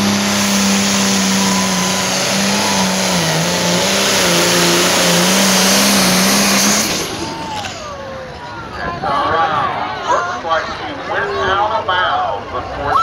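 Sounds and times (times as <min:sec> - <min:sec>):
loud tractor diesel engine: 0:00.0 - 0:13.0.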